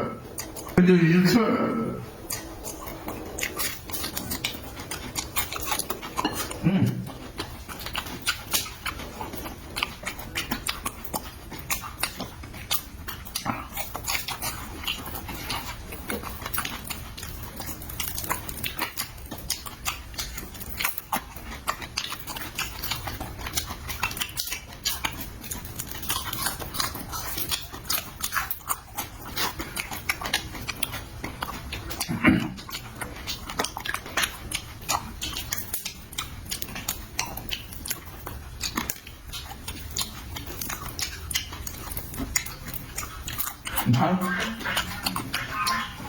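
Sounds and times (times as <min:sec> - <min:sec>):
chewing and mouth smacking: 0:00.1 - 0:00.8, 0:02.1 - 0:46.0.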